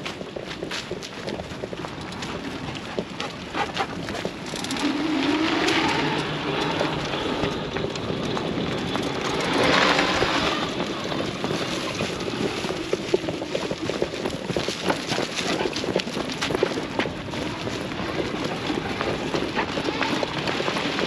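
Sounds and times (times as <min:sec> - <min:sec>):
tyres crunching over rough ground: 0:00.0 - 0:21.0.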